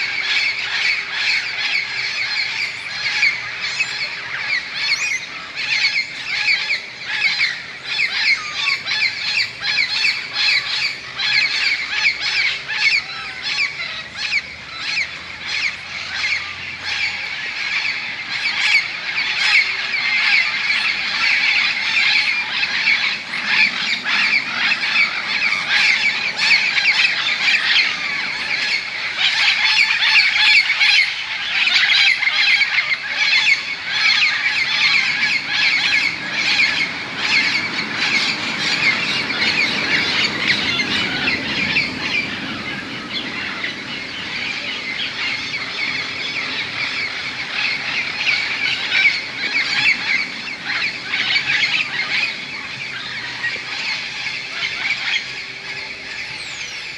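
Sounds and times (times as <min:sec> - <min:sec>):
parrots squawking: 0:00.0 - 0:56.9.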